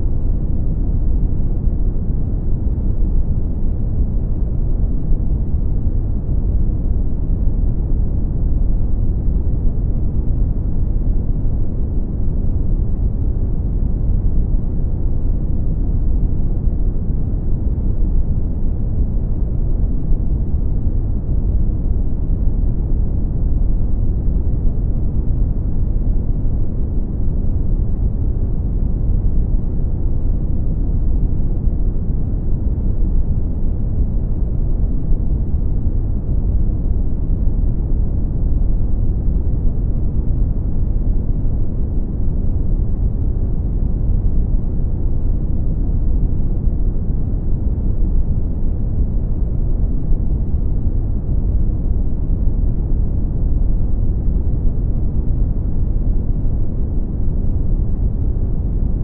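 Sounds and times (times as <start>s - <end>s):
deep rumble of brown noise: 0.0s - 59.0s.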